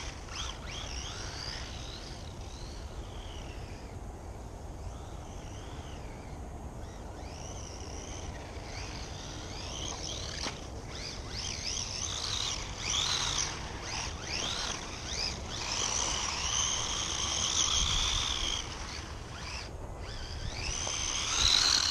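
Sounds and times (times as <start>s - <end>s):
toy car electric motor whine: 0.0s - 21.9s.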